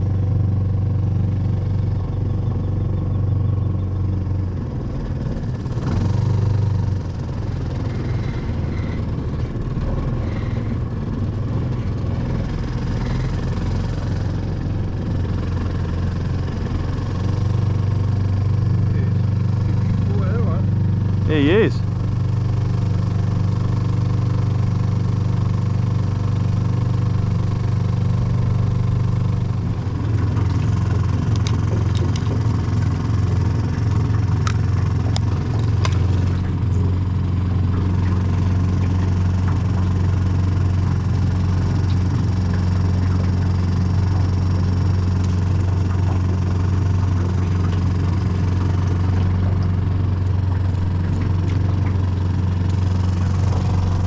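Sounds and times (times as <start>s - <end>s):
outboard motor humming: 0.0s - 54.0s.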